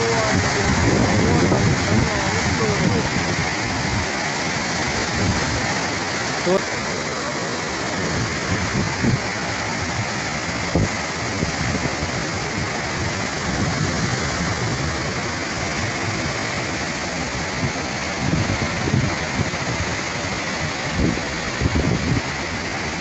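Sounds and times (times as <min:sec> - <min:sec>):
rushing floodwater: 0:00.0 - 0:23.0.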